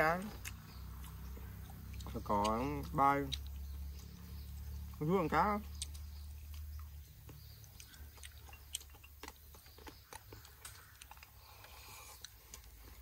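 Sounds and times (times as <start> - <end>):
man chewing: 0.2 - 5.0, 5.6 - 13.0.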